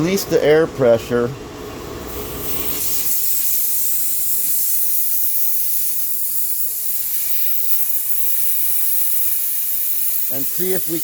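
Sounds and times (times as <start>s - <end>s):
air hissing from valve: 2.1s - 11.0s.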